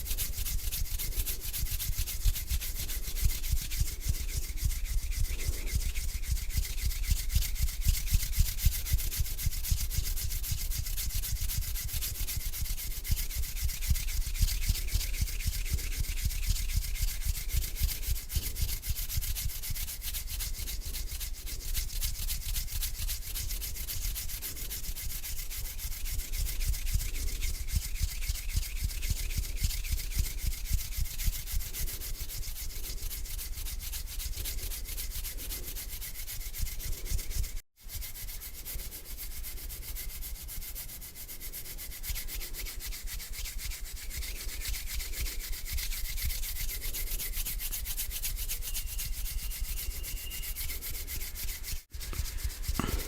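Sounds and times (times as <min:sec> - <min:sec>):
palms rubbing together: 0:00.0 - 0:53.0.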